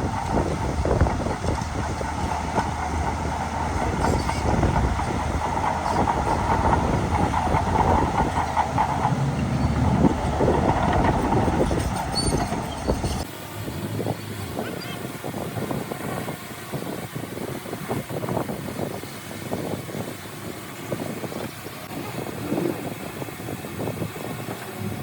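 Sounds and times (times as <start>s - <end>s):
bulldozer diesel engine rumbling: 0.0s - 25.0s
steel tracks clanking: 0.0s - 25.0s.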